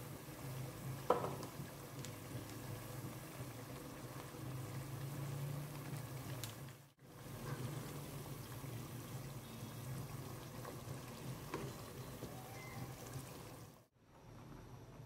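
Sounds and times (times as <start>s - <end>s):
liquid bubbling in a pot: 0.0s - 14.0s.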